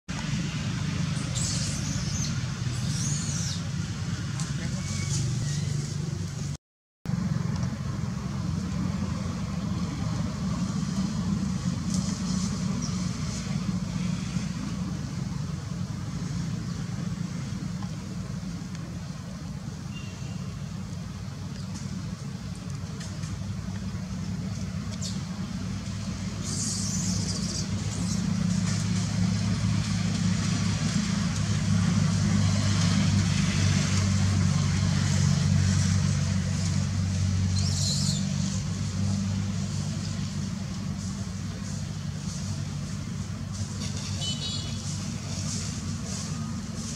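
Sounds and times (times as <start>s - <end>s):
low engine hum: 0.1s - 46.9s.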